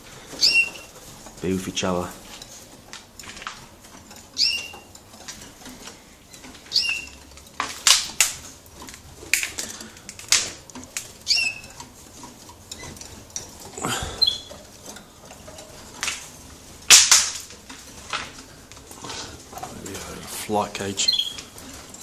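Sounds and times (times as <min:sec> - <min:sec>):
birds hopping with sharp clicks: 0:00.0 - 0:22.0
canaries calling: 0:00.0 - 0:22.0.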